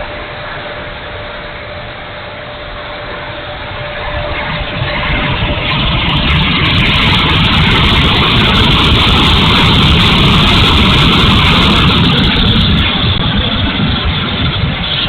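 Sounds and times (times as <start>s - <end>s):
electric ducted fan rushing: 0.0s - 15.0s.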